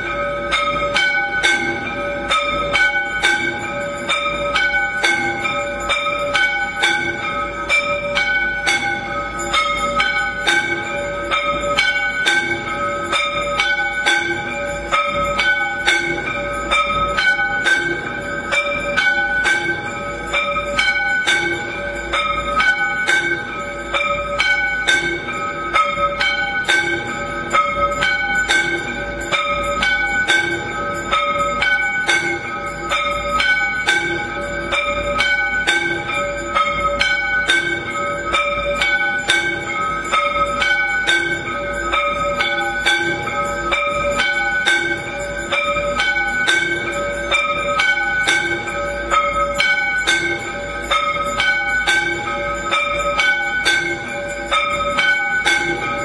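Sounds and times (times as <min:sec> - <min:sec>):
temple bells ringing rapidly: 0:00.0 - 0:56.0.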